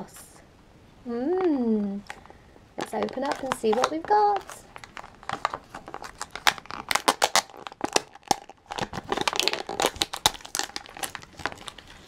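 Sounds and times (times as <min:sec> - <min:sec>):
plastic wrapping crinkling and tearing: 0:02.0 - 0:12.0.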